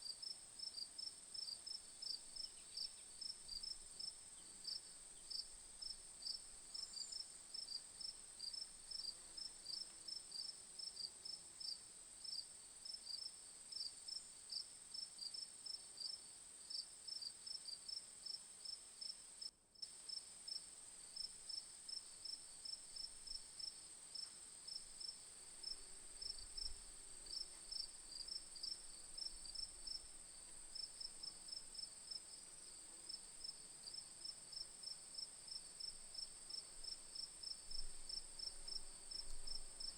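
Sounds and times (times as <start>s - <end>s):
cricket continuous trill: 0.0s - 39.9s.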